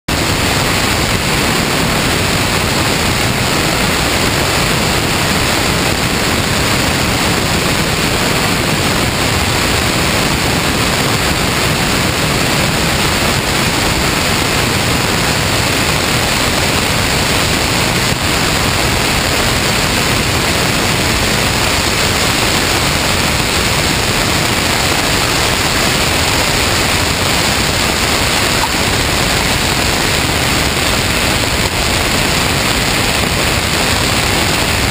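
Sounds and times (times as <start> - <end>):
rushing wind noise: 0.1 - 34.9.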